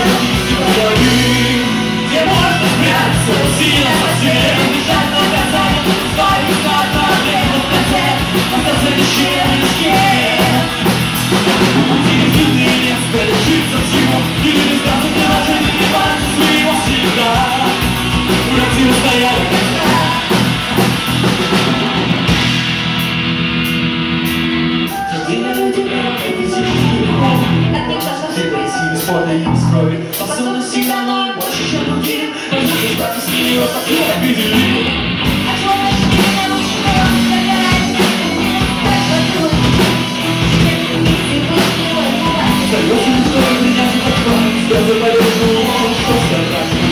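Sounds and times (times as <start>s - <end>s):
live rock band with singer: 0.0s - 46.9s.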